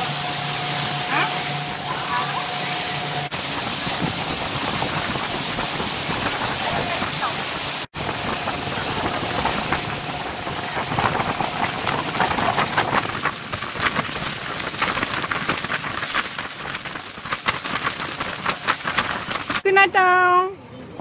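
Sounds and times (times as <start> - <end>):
spray crackling and splashing: 0.0 - 19.6
rushing wind and water: 0.0 - 19.9.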